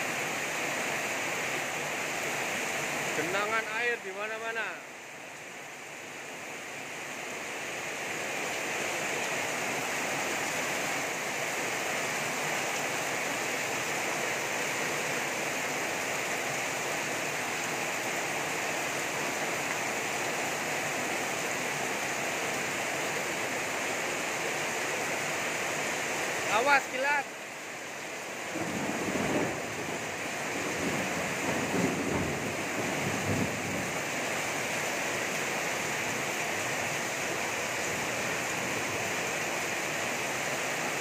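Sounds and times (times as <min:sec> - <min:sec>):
torrential rain splashing: 0:00.0 - 0:41.0.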